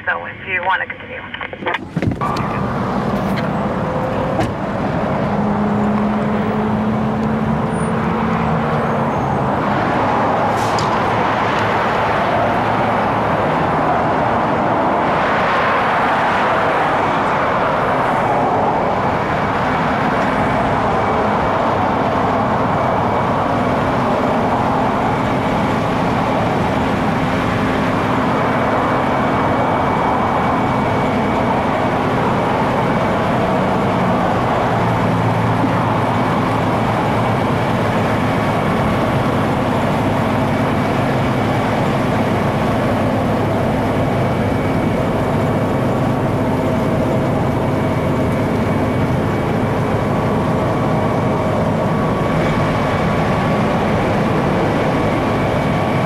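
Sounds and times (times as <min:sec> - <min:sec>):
emergency vehicles idling: 0:00.0 - 0:56.0
freeway traffic: 0:00.0 - 0:56.0.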